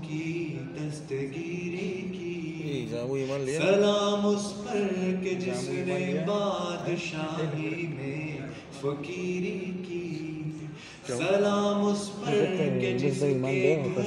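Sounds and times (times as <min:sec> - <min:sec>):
man singing through loudspeakers: 0:00.0 - 0:14.0.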